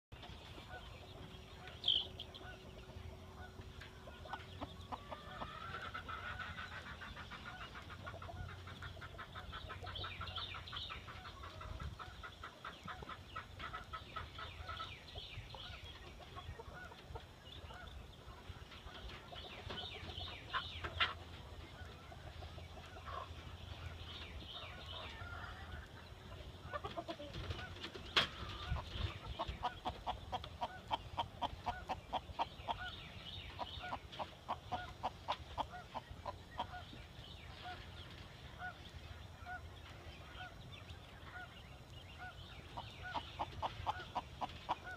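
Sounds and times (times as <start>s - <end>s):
chickens clucking: 0.1s - 44.9s.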